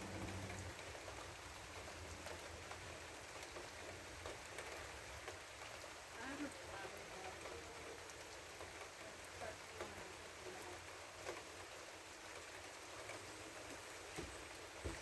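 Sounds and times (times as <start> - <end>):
faint rain falling: 0.0 - 15.0.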